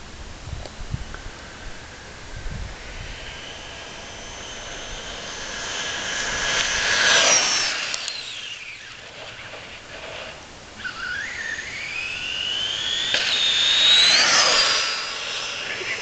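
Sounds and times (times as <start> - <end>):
rc truck motor whine: 1.0 - 16.0.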